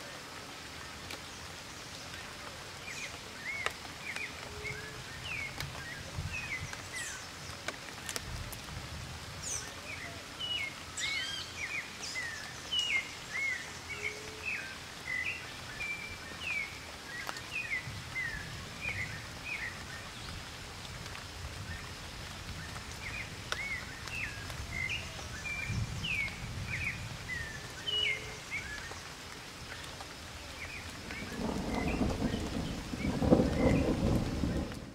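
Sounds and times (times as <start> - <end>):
steady rustling hiss: 0.0 - 34.9.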